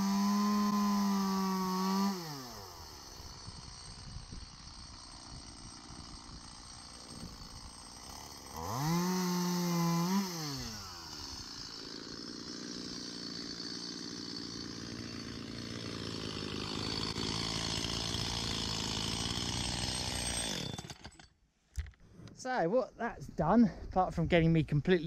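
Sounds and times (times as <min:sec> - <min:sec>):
chainsaw revving and idling: 0:00.0 - 0:21.3.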